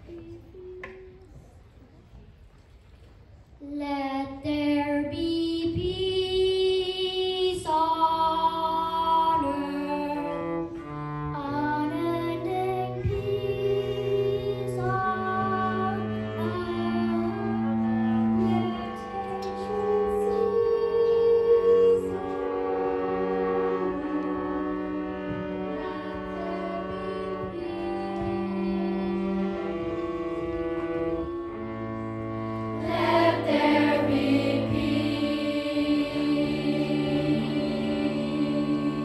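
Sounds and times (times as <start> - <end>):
children's choir singing: 4.7 - 39.0
string orchestra playing chords: 7.7 - 39.0.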